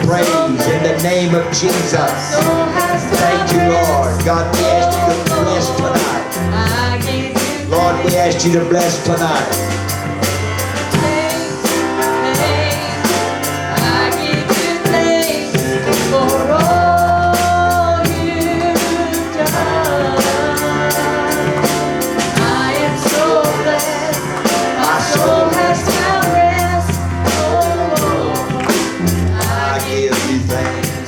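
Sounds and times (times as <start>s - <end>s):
drum kit beat: 0.0s - 31.0s
person singing: 0.0s - 31.0s.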